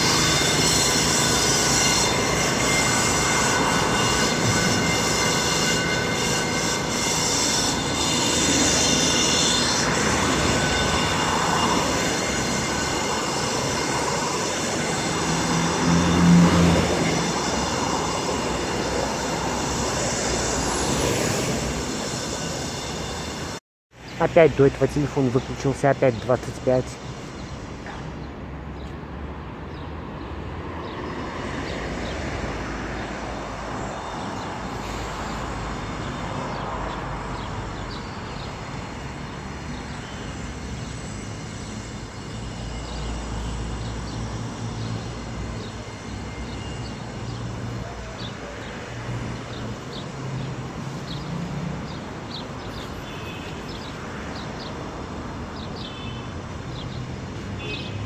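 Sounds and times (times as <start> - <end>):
passing vehicle engines: 7.0 - 58.0.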